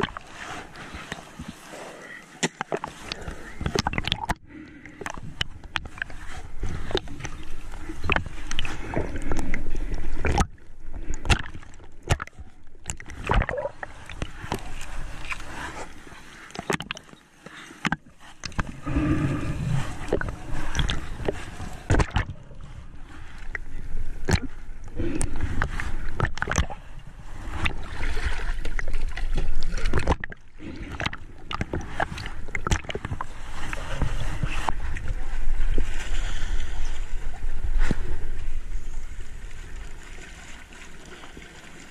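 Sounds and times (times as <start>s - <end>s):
underwater water sloshing: 0.0s - 41.9s.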